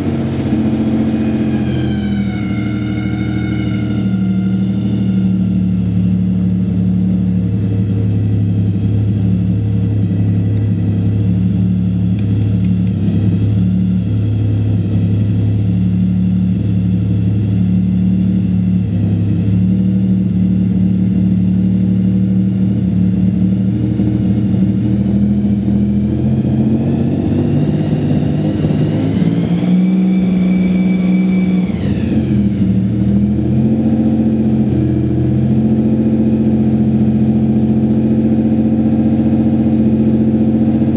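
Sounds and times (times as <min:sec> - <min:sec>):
car engine running: 0:00.0 - 0:40.9
high wavering engine whine: 0:00.0 - 0:40.9.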